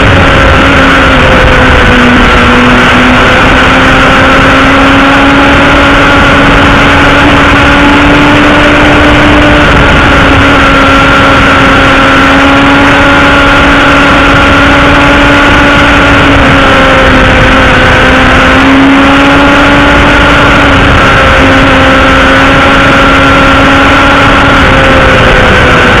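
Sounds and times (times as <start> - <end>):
loud motorcycle engine in tunnel: 0.0 - 26.0.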